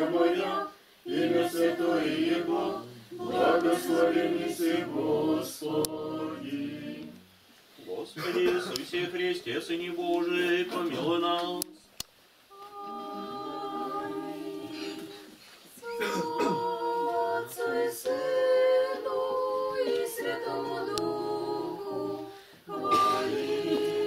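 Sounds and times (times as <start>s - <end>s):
voices singing liturgical chant: 0.0s - 7.3s, 7.9s - 11.8s, 12.5s - 24.0s.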